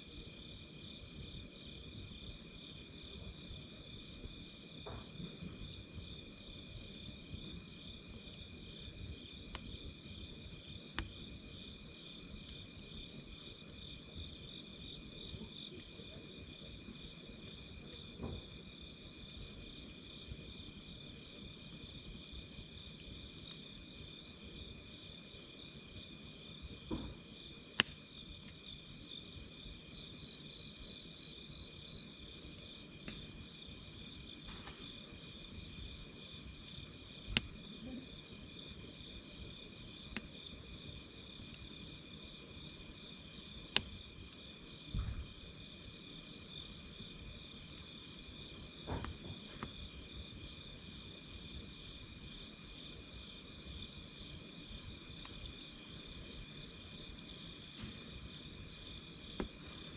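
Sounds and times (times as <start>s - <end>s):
campfire pops and crackles: 0.0s - 59.9s
insects chirring: 0.1s - 59.9s.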